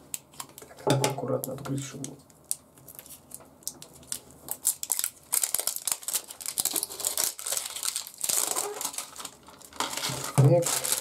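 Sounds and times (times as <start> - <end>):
plastic film crinkling: 0.2 - 11.0.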